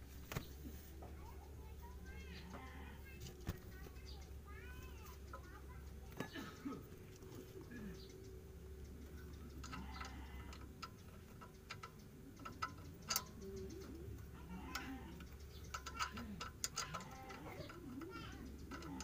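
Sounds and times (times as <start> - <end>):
faint metal clicks: 0.0 - 19.0.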